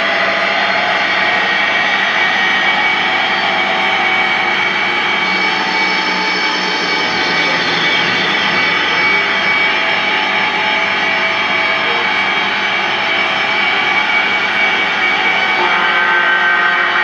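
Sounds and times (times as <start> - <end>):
band playing amplified drone: 0.0 - 17.0.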